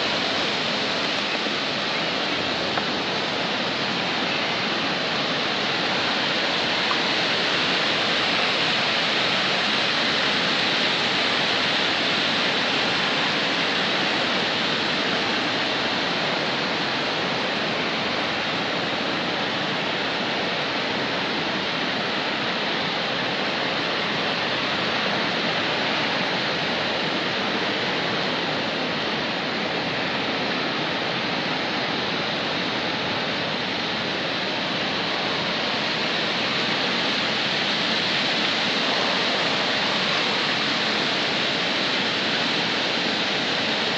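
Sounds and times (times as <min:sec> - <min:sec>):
water rushing from a dam: 0:00.0 - 0:43.9.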